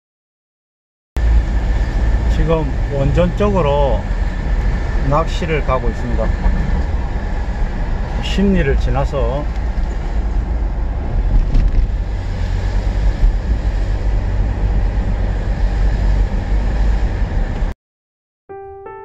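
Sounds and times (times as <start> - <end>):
car road and engine noise: 1.2 - 17.8.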